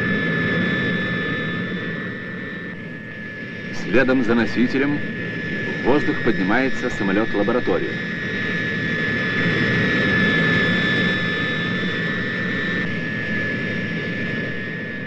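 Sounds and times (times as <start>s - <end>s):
high jet whine: 0.0s - 15.0s
jet engines roaring: 0.0s - 15.0s.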